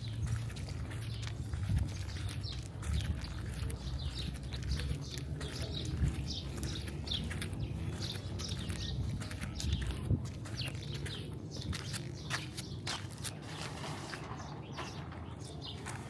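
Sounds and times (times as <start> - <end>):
city background rumble: 0.0 - 16.0
small birds chirping: 0.0 - 16.0.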